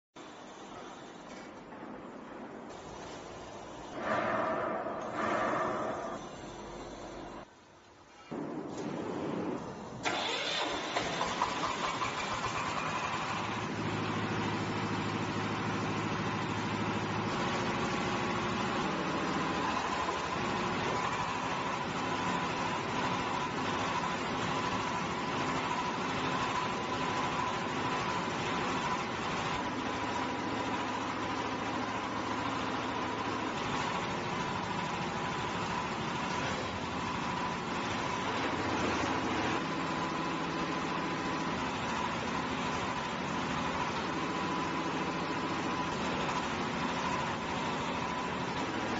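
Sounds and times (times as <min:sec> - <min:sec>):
diesel engine cranking and idling: 0:08.7 - 0:48.9.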